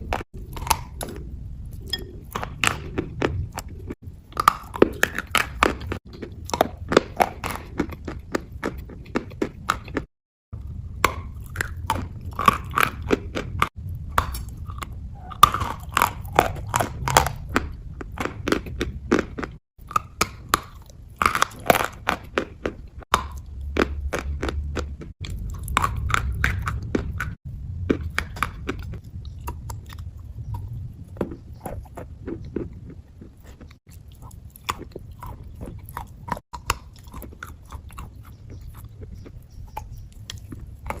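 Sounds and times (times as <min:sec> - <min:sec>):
wet crunchy chewing: 0:00.0 - 0:41.0.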